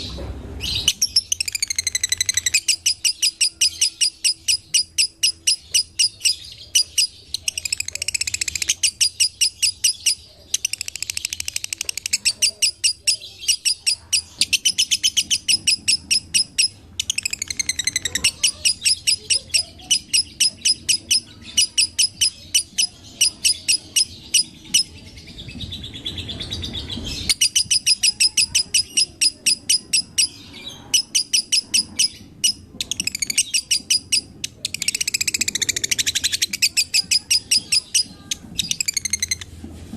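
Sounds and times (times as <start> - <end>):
lovebird chattering shrill chirps: 0.7 - 25.0, 27.1 - 39.5.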